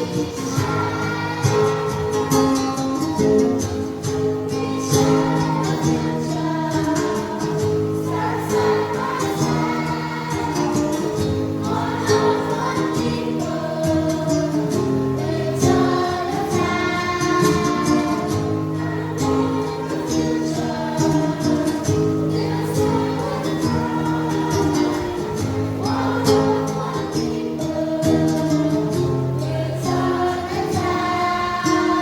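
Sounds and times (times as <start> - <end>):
choir singing a hymn: 0.0 - 32.0.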